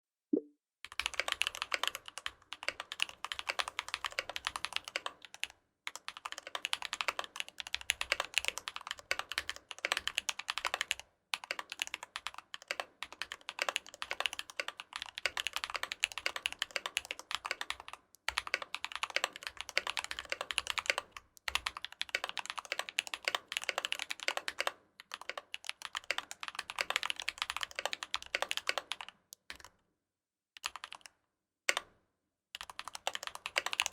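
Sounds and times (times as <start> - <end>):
fast mechanical keyboard typing: 0.9 - 29.7, 30.6 - 31.9, 32.6 - 33.9.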